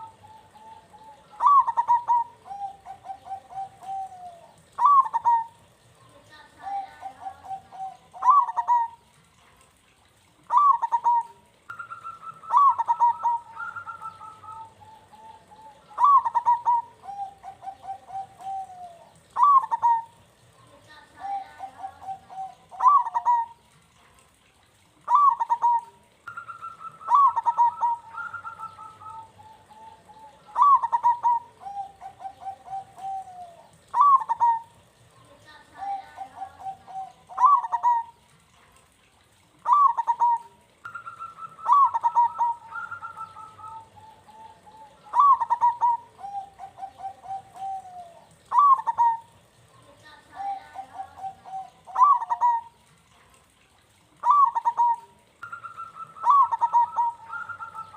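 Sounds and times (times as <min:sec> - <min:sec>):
dove cooing: 0:00.0 - 0:38.5, 0:39.1 - 0:57.9.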